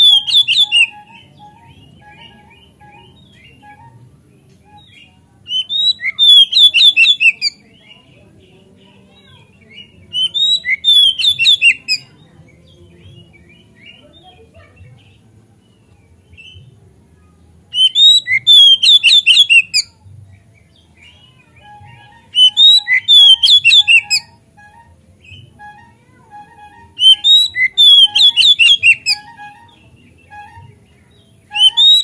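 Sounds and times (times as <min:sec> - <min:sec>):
faint bird notes: 0:00.0 - 0:16.6, 0:17.2 - 0:32.0
magpie-robin singing: 0:00.0 - 0:32.0.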